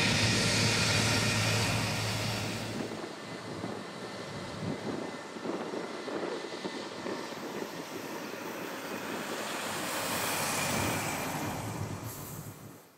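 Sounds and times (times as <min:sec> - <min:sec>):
jet engines roaring: 0:00.0 - 0:12.8.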